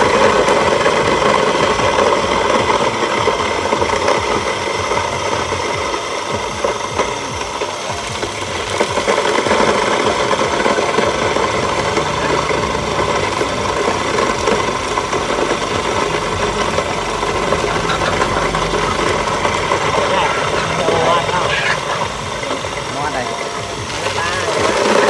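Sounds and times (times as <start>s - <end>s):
grain mill grinding corn: 0.0s - 25.0s.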